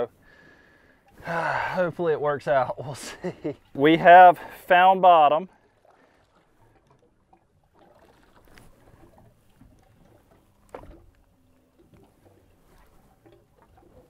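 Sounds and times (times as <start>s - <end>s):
faint open-water ambience: 0.0s - 14.0s.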